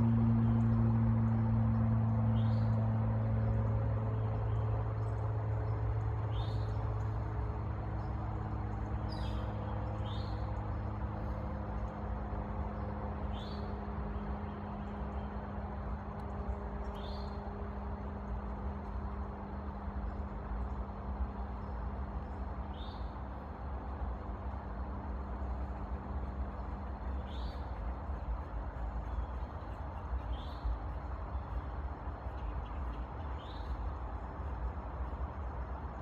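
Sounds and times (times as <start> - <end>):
low humming tone: 0.0 - 36.0
outdoor background noise: 0.0 - 36.0.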